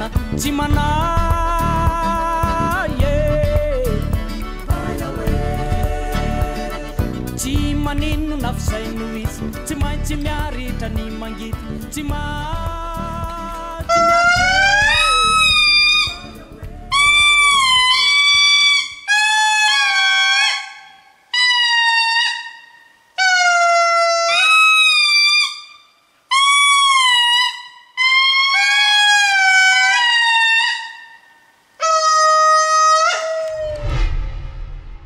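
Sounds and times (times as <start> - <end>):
indri trumpet-like calls: 0.7 - 9.5, 12.3 - 34.3.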